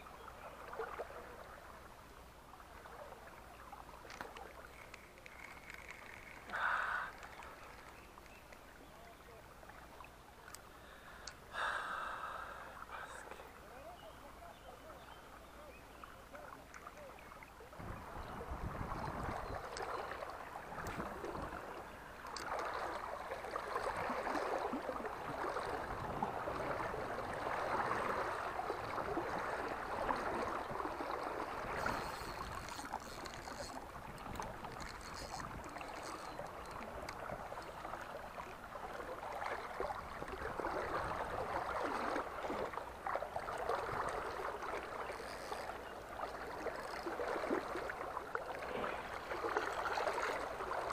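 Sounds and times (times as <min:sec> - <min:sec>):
river water gurgling and splashing: 0:00.0 - 0:50.9.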